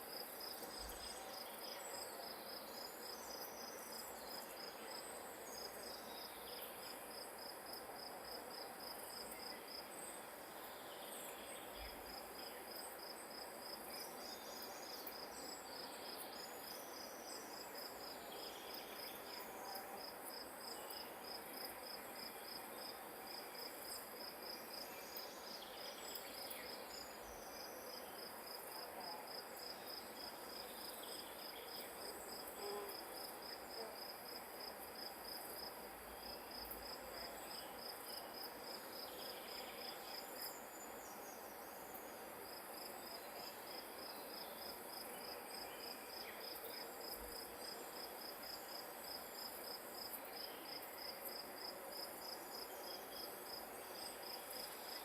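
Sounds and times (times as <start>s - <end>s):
insect chirping: 0.0s - 55.0s
steady outdoor hiss: 0.0s - 55.0s.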